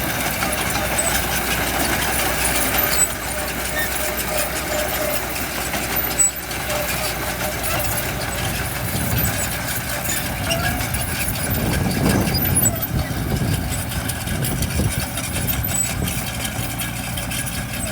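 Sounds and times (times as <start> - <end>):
heavy diesel engine running: 0.0 - 17.9.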